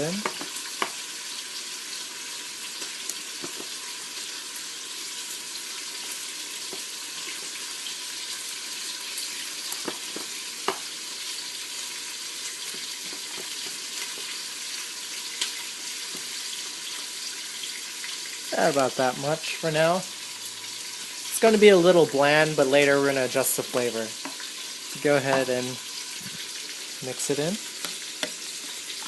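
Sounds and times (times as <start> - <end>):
onions sizzling in oil: 0.0 - 29.0.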